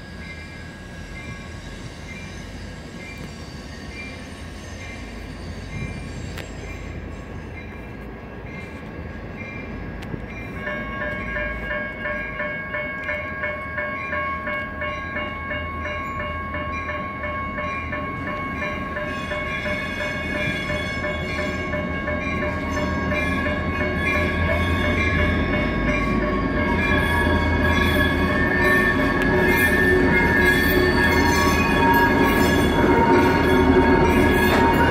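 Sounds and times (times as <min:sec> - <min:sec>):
railroad crossing bells ringing: 0:00.0 - 0:34.9.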